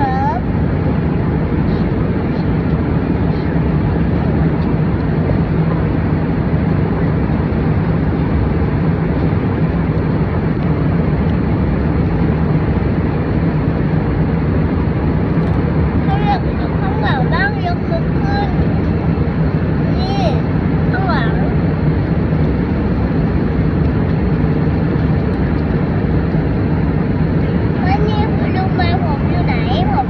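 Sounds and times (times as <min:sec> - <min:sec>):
airliner cabin drone: 0:00.0 - 0:30.0.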